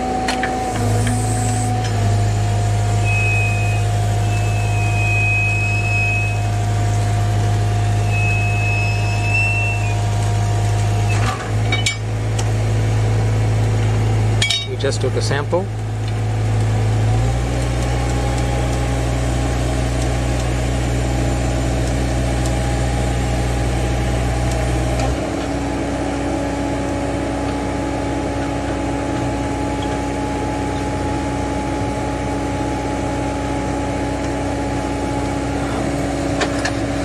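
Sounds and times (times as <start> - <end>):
drilling rig engine drone: 0.0 - 37.0.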